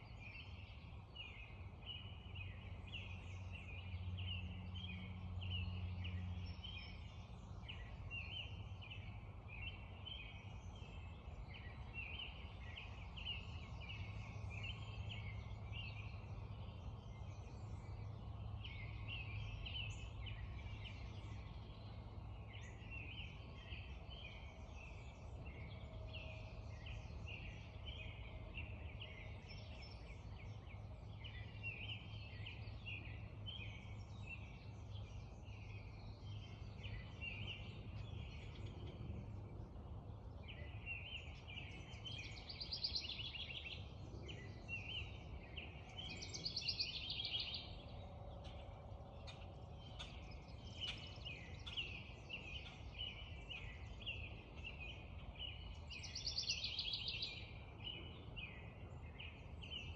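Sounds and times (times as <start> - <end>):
birds calling and singing: 0.0 - 59.9.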